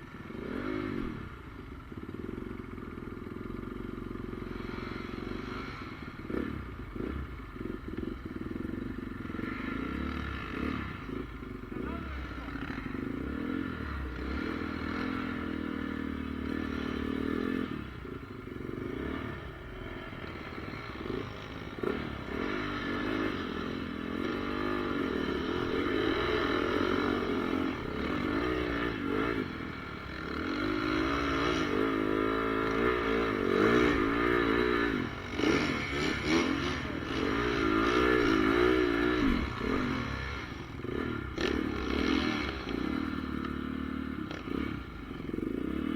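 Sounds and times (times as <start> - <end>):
motocross bike engine revving: 0.2 - 1.4, 4.0 - 45.9.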